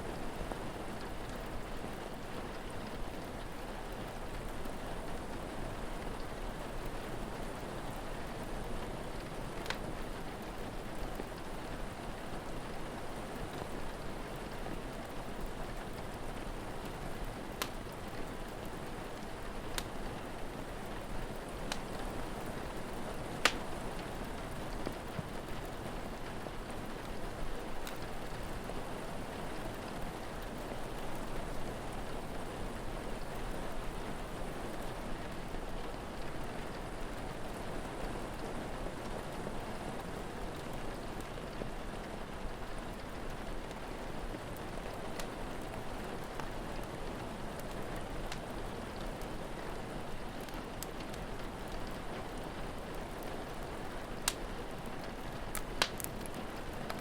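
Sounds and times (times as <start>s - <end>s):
steady rain falling: 0.0s - 57.0s
fire crackling and popping: 0.4s - 39.4s, 40.0s - 57.0s.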